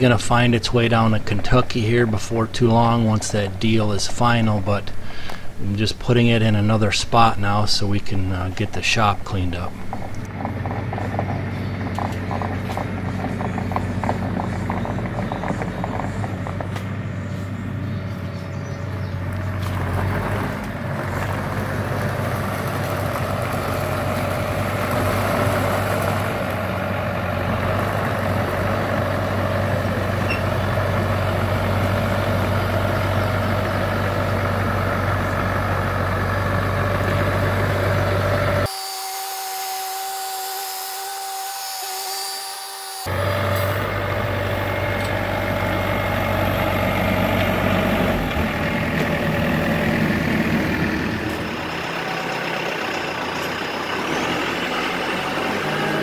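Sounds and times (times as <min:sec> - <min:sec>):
excavator diesel engine running: 0:00.0 - 0:38.7, 0:43.0 - 0:56.0.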